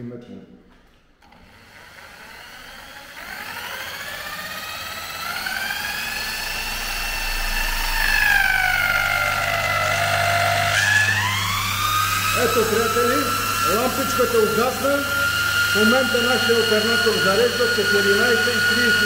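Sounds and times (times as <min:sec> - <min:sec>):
electric drill motor whine: 0:01.3 - 0:19.0.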